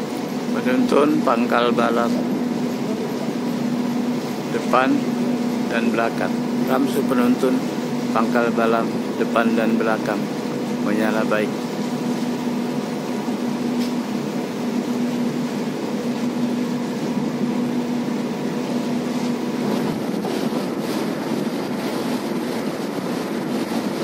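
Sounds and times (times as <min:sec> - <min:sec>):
ship engine drone: 0:00.0 - 0:24.0
steady hum: 0:00.0 - 0:24.0.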